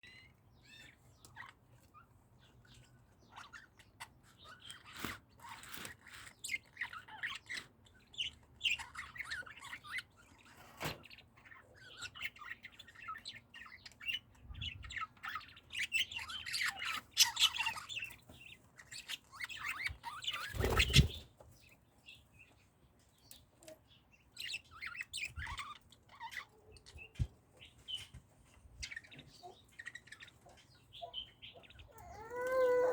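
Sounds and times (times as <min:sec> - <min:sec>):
parrots chirping and chattering: 0:00.0 - 0:32.9.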